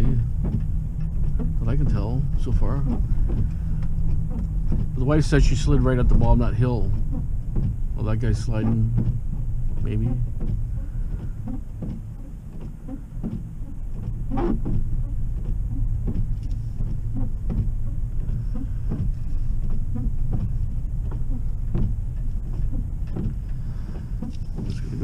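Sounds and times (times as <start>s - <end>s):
car tyres and engine rumble: 0.0s - 25.0s.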